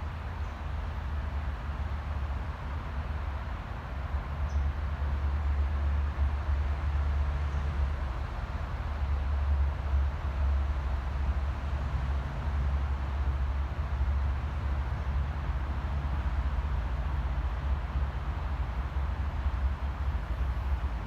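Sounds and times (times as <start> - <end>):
distant city traffic rumble: 0.0 - 21.0.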